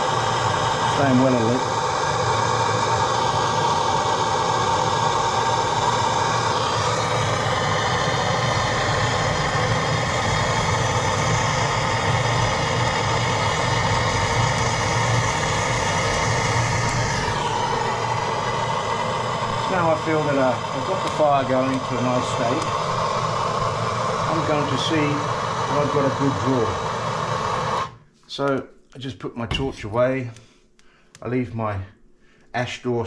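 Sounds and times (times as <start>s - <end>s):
propane torch hissing: 0.0s - 28.0s.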